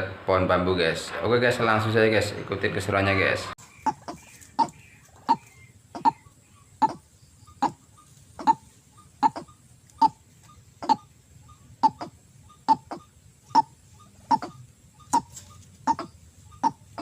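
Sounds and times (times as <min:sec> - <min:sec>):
bird calling harsh notes: 0:03.1 - 0:17.0.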